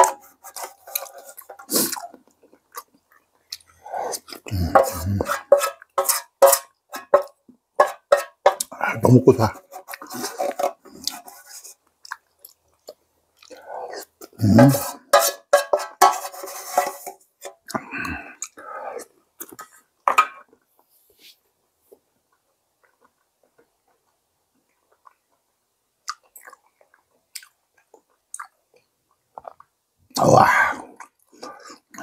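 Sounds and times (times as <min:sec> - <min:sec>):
slurping and chewing: 0:00.0 - 0:06.4, 0:07.0 - 0:19.9, 0:21.9 - 0:32.0.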